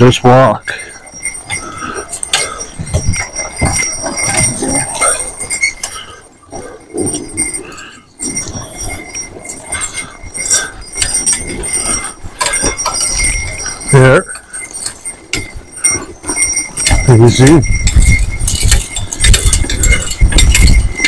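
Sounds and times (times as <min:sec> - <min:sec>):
harness clinking: 0:00.0 - 0:21.0
wagon clattering and rattling: 0:00.0 - 0:21.0
hooves crunching on snow: 0:00.2 - 0:21.0.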